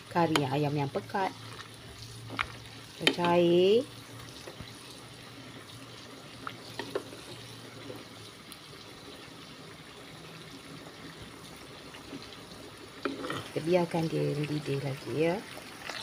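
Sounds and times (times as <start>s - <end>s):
curry bubbling: 0.0s - 16.0s.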